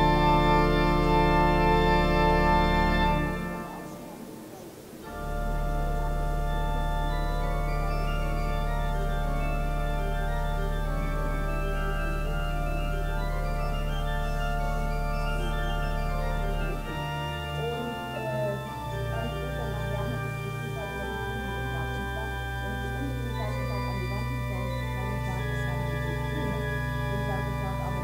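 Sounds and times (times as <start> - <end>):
deep organ bass note: 0.0 - 4.2, 5.0 - 28.0
organ chord: 0.0 - 28.0.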